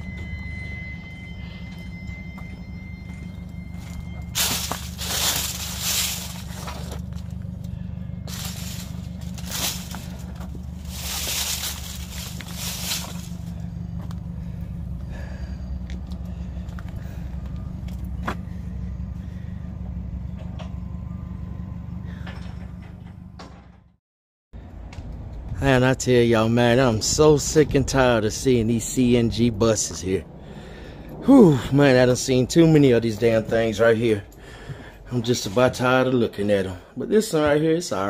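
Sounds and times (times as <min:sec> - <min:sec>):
engine idling: 0:00.0 - 0:23.9, 0:24.6 - 0:37.0.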